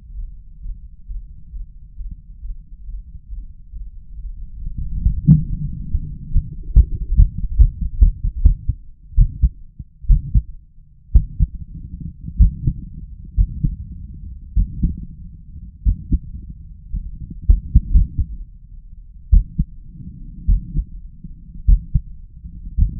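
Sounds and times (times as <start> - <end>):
heart beating unevenly: 0.1 - 18.4, 19.3 - 22.9.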